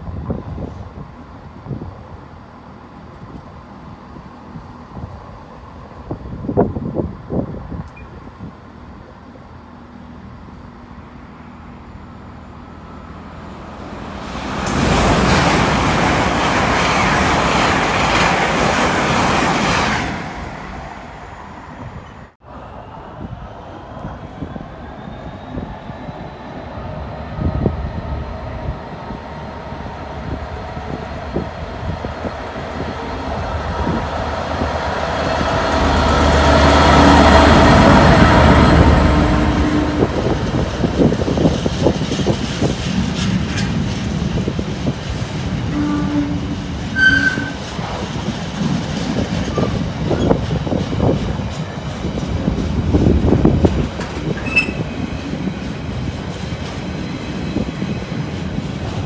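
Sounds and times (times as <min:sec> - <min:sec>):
diesel locomotive engine passing: 0:00.0 - 0:59.0.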